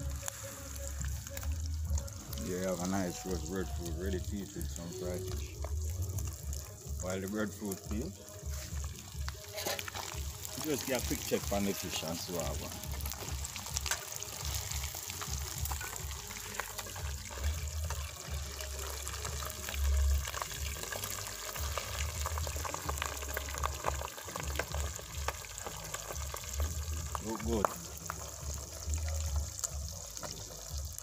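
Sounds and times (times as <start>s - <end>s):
fish frying in hot oil: 0.0s - 31.0s.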